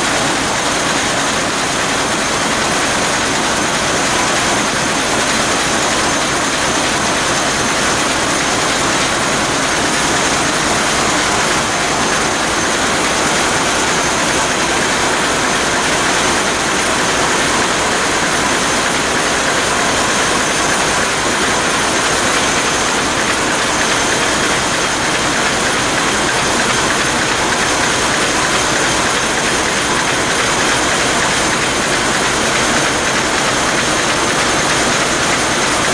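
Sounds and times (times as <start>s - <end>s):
marine diesel engine running: 0.0s - 35.9s.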